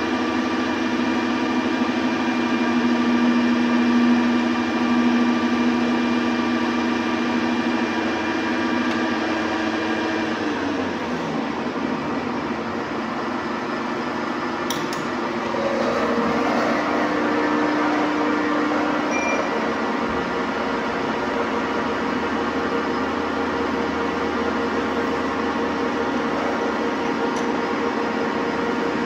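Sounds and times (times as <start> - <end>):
metalworking lathe whirring: 0.0 - 29.0.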